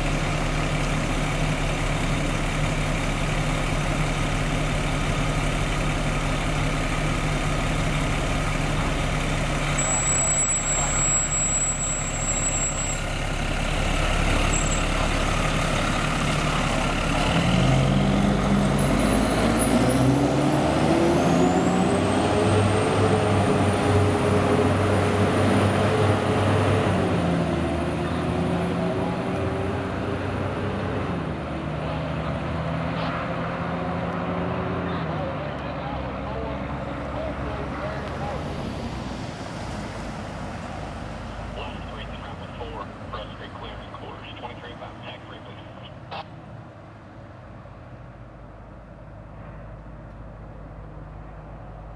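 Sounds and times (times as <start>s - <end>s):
diesel engine idling and revving: 0.0s - 51.9s.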